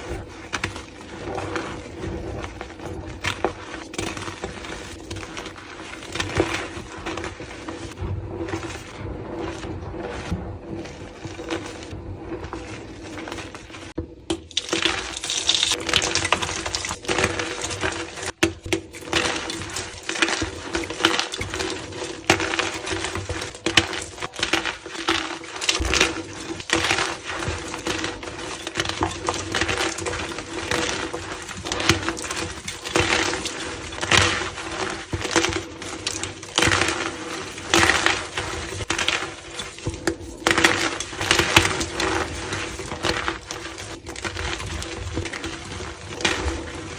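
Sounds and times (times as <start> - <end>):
chalk crunching and crackling: 0.0 - 46.9.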